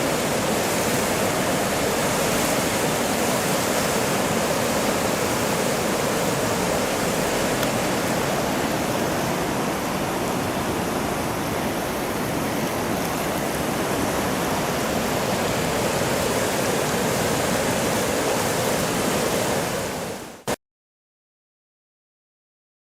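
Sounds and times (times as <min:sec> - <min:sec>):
floodwater rushing through gates: 0:00.0 - 0:20.5.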